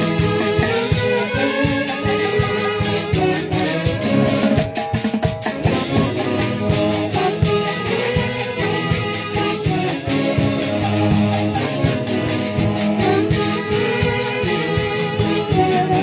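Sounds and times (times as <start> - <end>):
dance orchestra playing: 0.0 - 16.0
horn section melody: 0.0 - 16.0.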